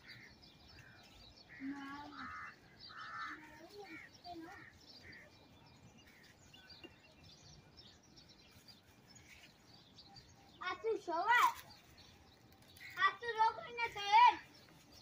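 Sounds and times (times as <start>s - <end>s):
faint birds chirping: 0.0s - 15.0s
outdoor background noise: 0.0s - 15.0s.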